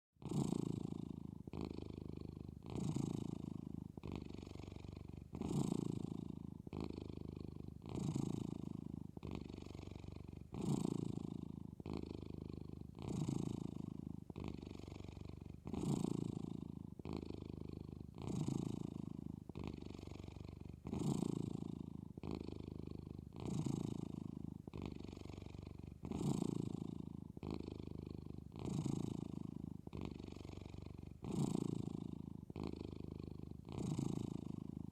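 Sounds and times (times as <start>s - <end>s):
cat purring: 0.2s - 34.9s.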